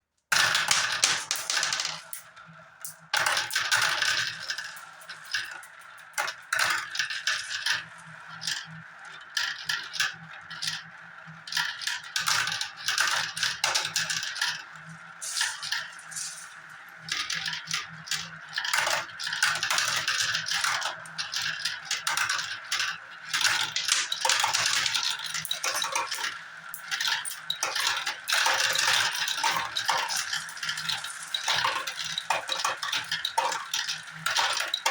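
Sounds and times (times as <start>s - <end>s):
marbles clattering on a track: 0.3s - 34.9s.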